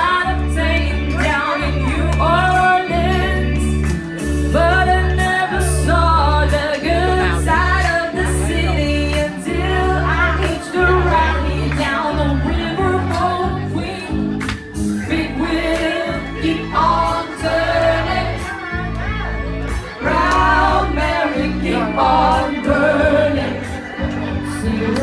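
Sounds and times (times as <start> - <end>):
person singing: 0.0 - 18.9, 19.8 - 25.0
loud music with bass line: 0.0 - 25.0.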